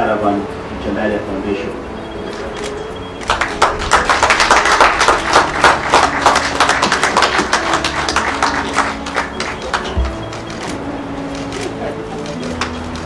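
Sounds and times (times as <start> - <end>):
group clapping: 2.4 - 13.0.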